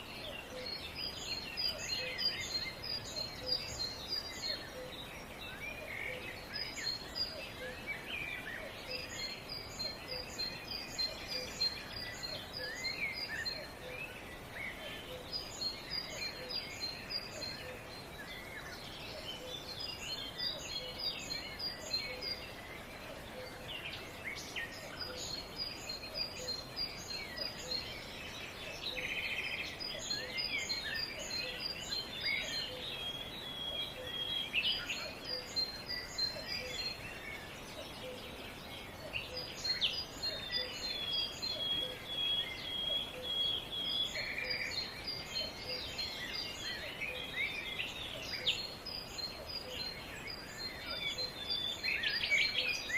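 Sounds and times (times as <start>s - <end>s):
outdoor background hiss: 0.0s - 52.9s.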